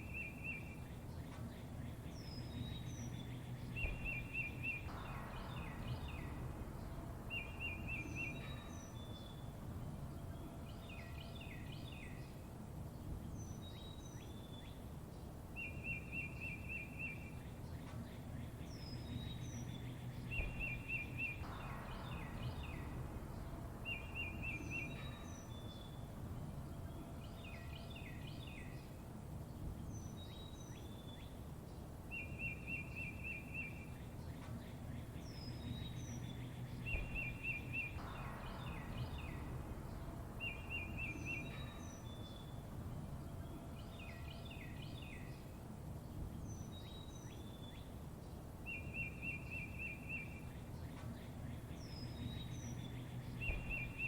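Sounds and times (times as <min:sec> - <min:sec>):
low rushing background: 0:00.0 - 0:54.0
songbirds chirping and whistling: 0:00.0 - 0:54.0.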